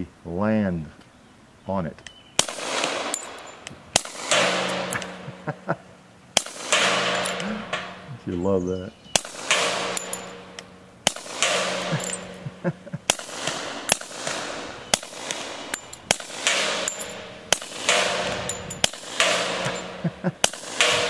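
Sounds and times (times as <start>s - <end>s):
muffled pistol shots: 2.4s - 5.7s, 6.3s - 8.1s, 9.1s - 21.0s
bullet clanging on steel drum: 2.8s - 5.8s, 6.4s - 8.4s, 9.2s - 21.0s.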